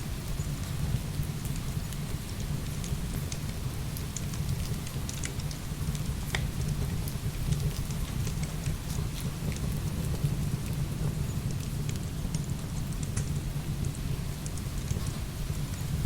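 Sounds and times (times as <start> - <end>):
firewood crackling and popping: 0.9 - 16.0.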